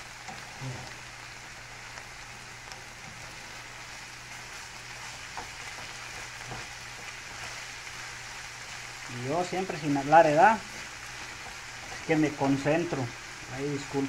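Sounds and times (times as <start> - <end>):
sausage sizzling in frying pan: 0.0 - 14.0.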